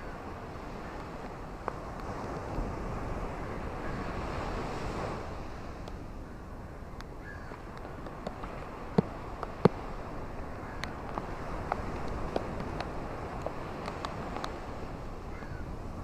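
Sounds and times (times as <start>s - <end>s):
ocean surf washing ashore: 0.0s - 16.0s.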